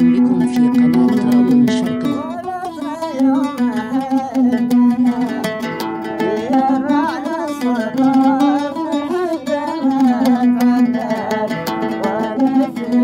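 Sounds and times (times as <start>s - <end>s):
oud plucked rapidly: 0.0s - 13.0s
wavering bending melody: 0.0s - 13.0s.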